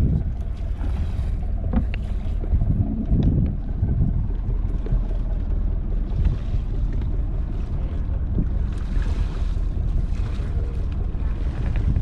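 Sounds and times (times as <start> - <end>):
low steady rumble: 0.0 - 12.0
wind buffeting microphone: 0.0 - 12.0.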